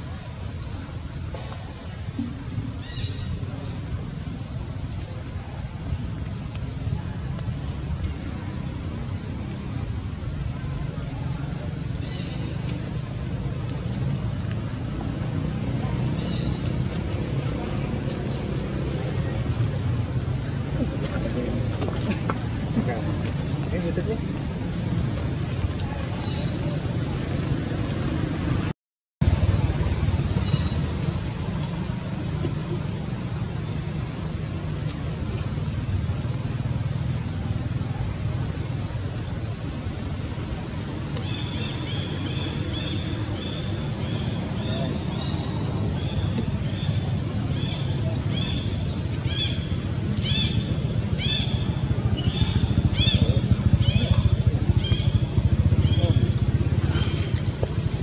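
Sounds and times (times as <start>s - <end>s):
low outdoor rumble: 0.0s - 58.0s.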